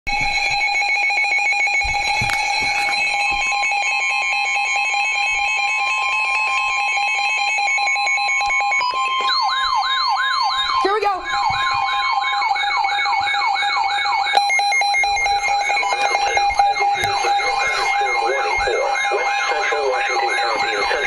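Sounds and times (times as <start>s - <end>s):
higher steady alarm tone: 0.1s - 21.0s
steady alarm tone with pulsing beeps: 0.1s - 21.0s
wailing siren-like sweep: 2.2s - 21.0s.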